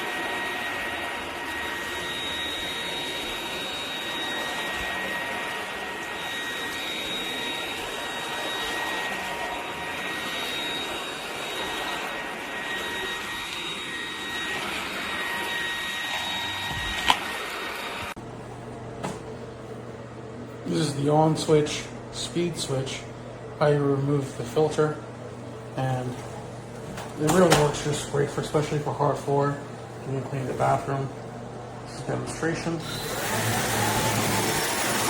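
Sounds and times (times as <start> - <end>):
stick vacuum running: 0.0 - 35.0.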